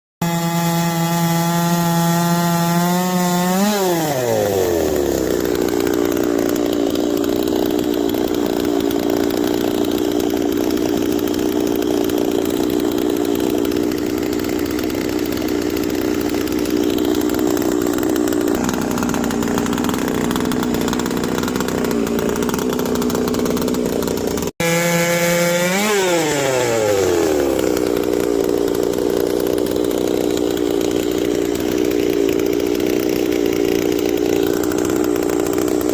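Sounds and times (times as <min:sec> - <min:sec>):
chainsaw cutting log: 0:00.2 - 0:35.9.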